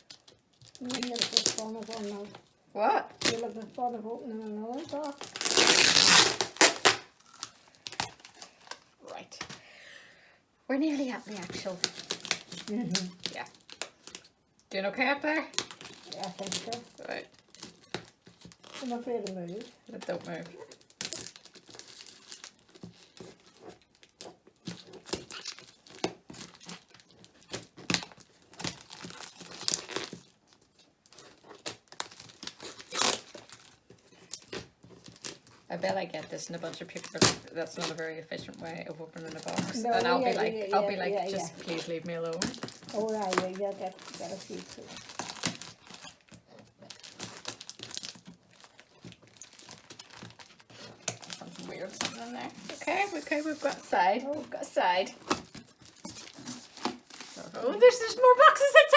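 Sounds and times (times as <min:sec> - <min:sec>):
cardboard and paper ripping: 0:00.6 - 0:02.5, 0:03.2 - 0:08.8, 0:11.0 - 0:14.2, 0:15.5 - 0:58.9.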